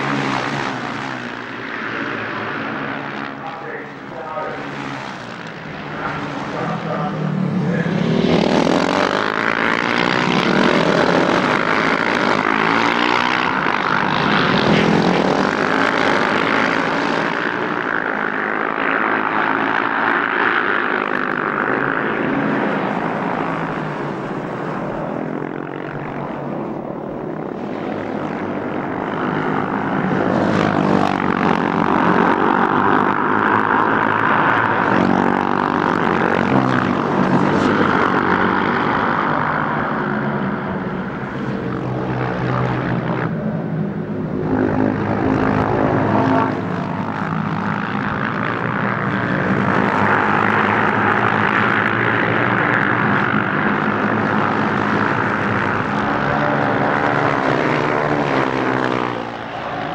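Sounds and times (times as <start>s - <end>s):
race motorcycles passing: 0.0s - 59.9s.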